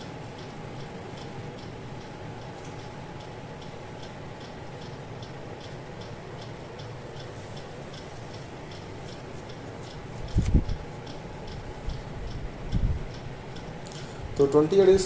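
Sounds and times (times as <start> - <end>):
air conditioner airflow hiss: 0.0 - 15.0
light ticking: 0.0 - 15.0.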